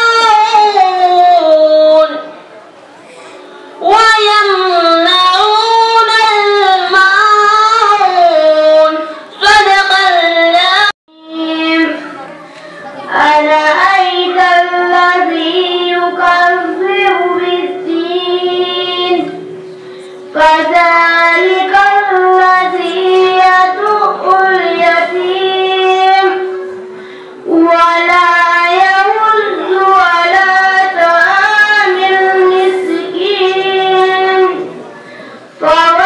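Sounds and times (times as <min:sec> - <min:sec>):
child chanting: 0:00.0 - 0:02.4, 0:03.8 - 0:34.8.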